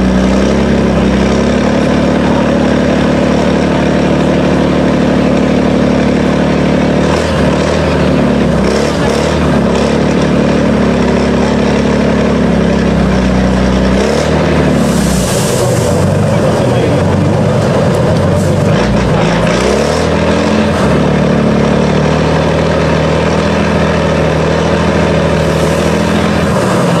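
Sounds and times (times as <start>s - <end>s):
diesel truck engine under load: 0.0s - 27.0s.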